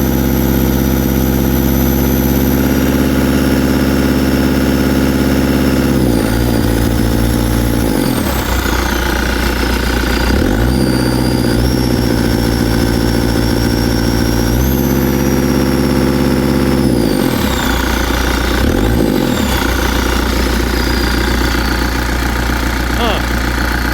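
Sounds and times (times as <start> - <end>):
diesel engine revving: 0.0 - 23.9.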